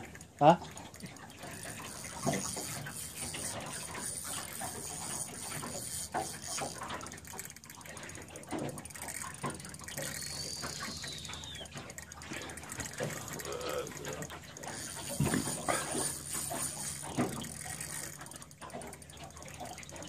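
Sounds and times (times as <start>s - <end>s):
fishing reel cranking: 0.0s - 20.0s
water noise: 0.0s - 20.0s
wind: 0.0s - 20.0s.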